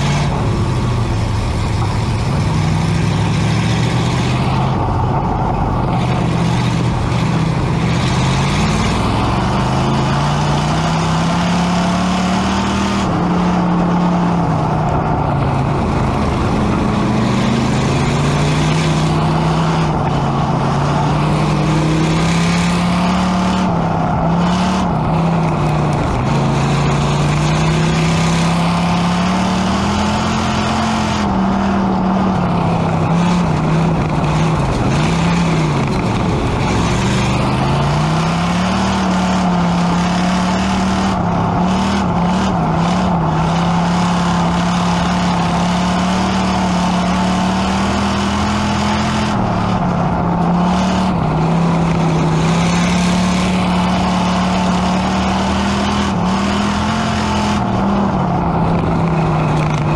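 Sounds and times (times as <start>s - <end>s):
race car engine running: 0.0s - 59.9s.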